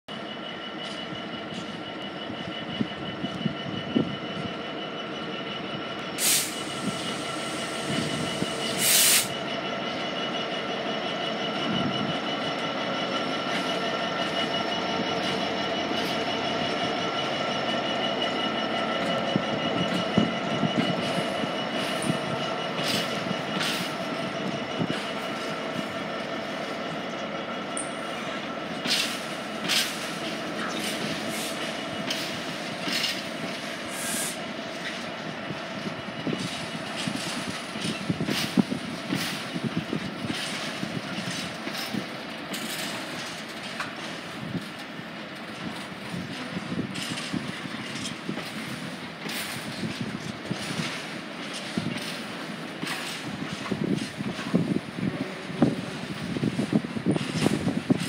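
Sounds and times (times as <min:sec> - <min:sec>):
diesel locomotive engine running: 0:00.1 - 0:58.0
train wheels clattering on rails: 0:00.1 - 0:58.0.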